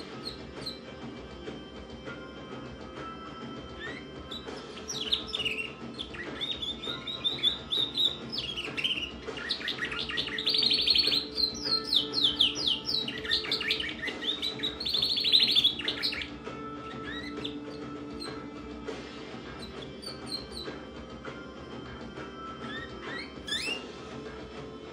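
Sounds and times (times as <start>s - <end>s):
canary singing chirps and trills: 0.0s - 24.9s.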